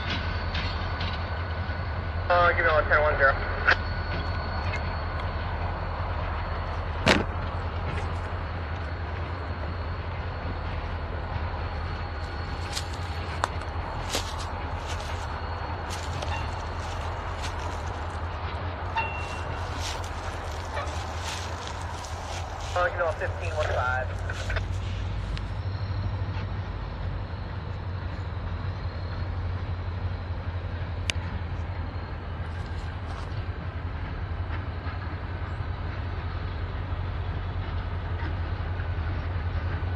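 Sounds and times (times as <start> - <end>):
faint high whine: 0.0 - 33.7
diesel locomotive engine rumble: 0.0 - 39.9.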